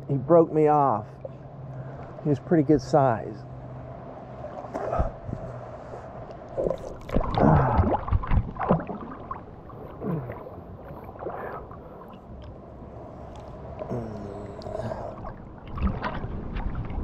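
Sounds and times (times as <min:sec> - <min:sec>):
water sloshing and gurgling: 0:00.2 - 0:17.0
water splashes: 0:00.6 - 0:17.0.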